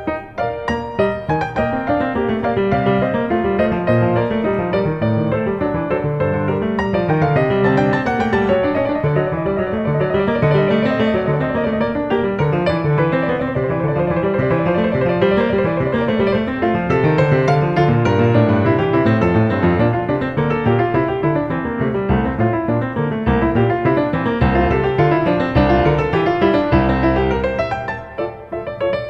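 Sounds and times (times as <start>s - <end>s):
piano piece: 0.0s - 29.0s.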